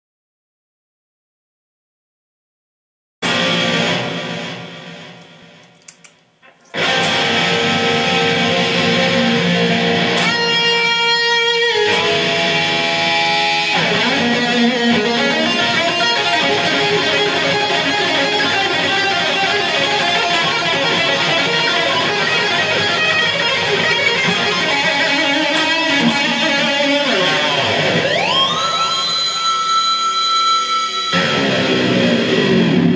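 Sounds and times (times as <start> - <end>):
electric guitar metal riffs: 3.2 - 32.9.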